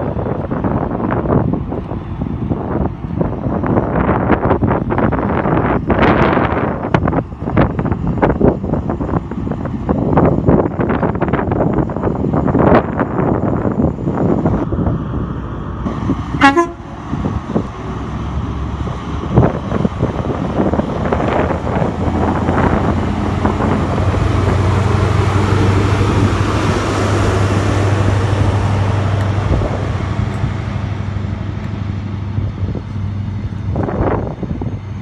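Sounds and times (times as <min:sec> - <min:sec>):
diesel train engine drone: 0:00.0 - 0:35.0.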